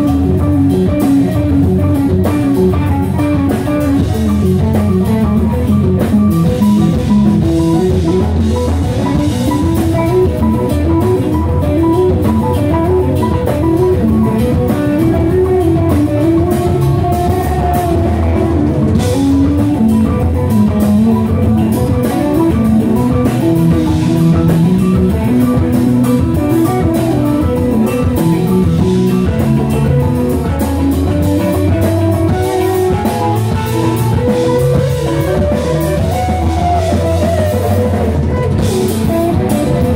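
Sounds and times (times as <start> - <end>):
drum kit: 0.0 - 39.9
guitar: 0.0 - 39.9
keyboards: 0.0 - 39.9.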